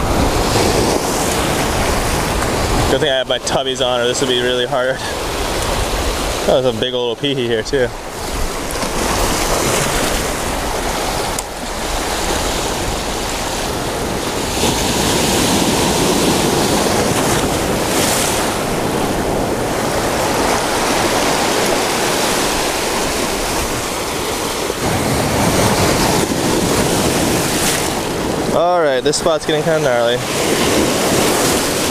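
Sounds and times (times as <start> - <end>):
ocean waves breaking on rocks: 0.0 - 31.9.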